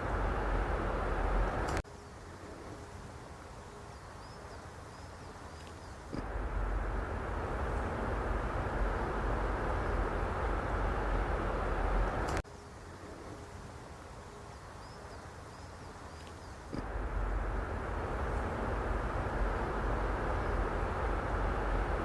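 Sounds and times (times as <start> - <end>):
outdoor rumbling hiss: 0.0 - 22.0.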